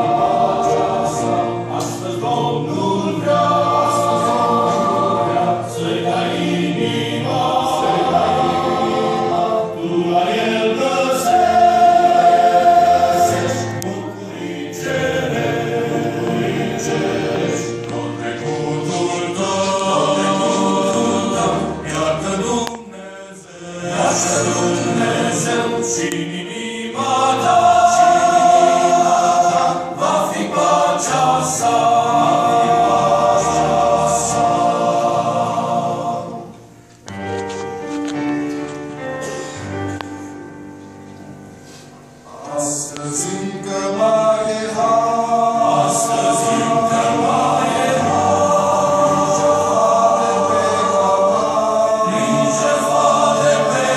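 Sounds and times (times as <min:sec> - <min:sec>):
church choir singing a hymn: 0:00.0 - 0:53.9.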